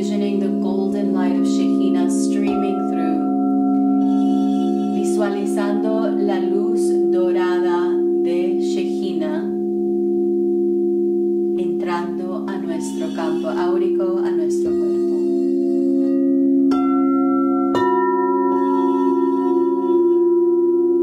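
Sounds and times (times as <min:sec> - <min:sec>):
crystal singing bowls ringing: 0:00.0 - 0:21.0.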